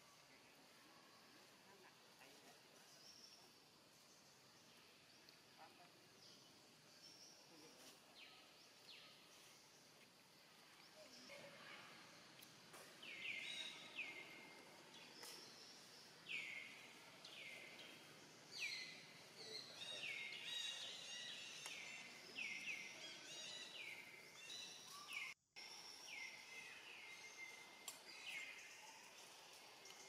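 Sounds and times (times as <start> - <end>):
faint outdoor background: 0.0 - 30.0.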